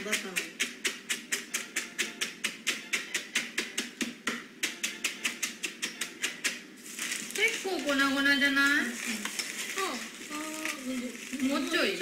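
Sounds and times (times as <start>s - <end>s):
utensil pounding food in plastic bag: 0.0s - 12.0s.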